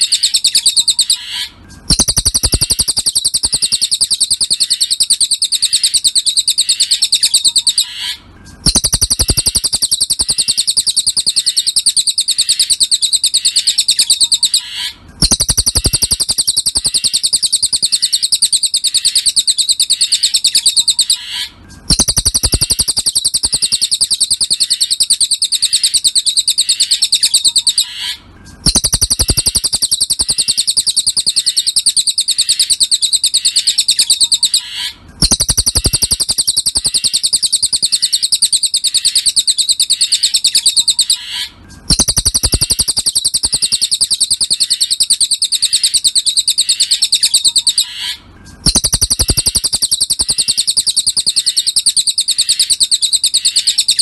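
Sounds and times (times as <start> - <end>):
bird trilling song: 0.0 - 54.0.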